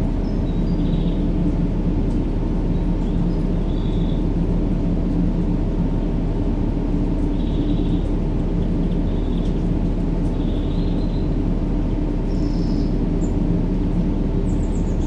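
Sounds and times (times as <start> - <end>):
deep rumbling white noise: 0.0 - 15.0.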